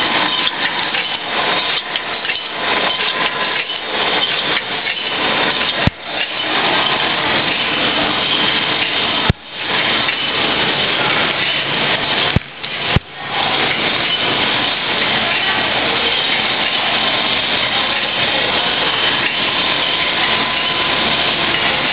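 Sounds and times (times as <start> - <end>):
factory machinery clattering: 0.0 - 21.9.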